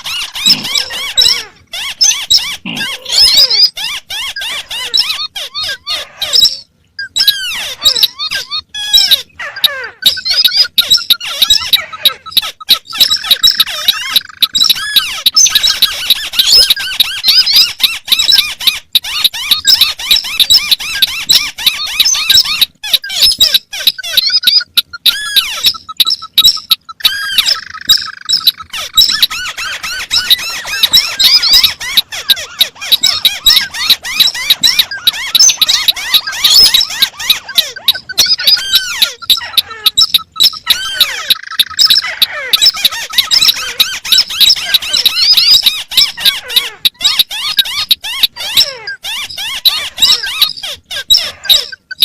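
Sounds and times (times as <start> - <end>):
crake calls chattering: 0.0 - 52.0.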